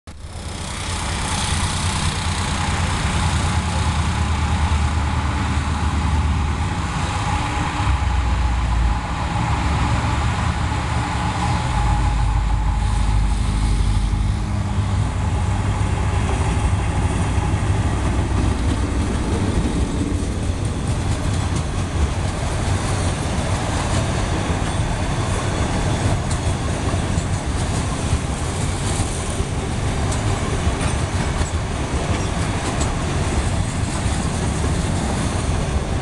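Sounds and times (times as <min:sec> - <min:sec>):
locomotive engine drone: 0:00.1 - 0:36.0
train low rumble: 0:00.1 - 0:36.0.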